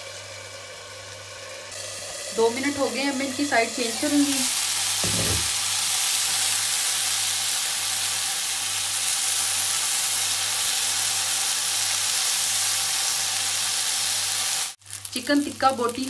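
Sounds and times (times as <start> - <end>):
chicken sizzling on a hot griddle: 0.0 - 16.0.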